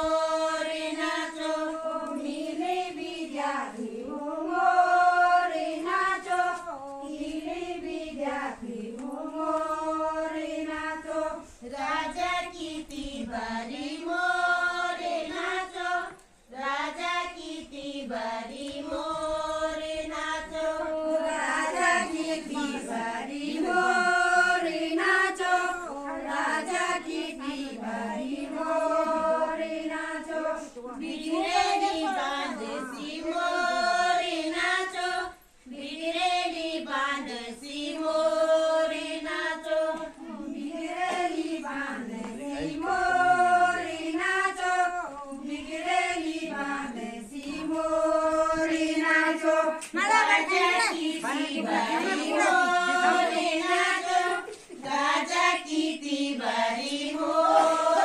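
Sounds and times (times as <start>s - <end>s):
women singing folk song unaccompanied: 0.0s - 58.0s.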